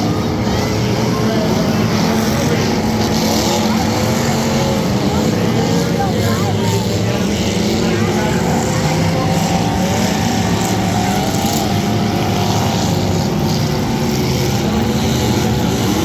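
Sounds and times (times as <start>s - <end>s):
car engines running loudly: 0.0s - 16.0s.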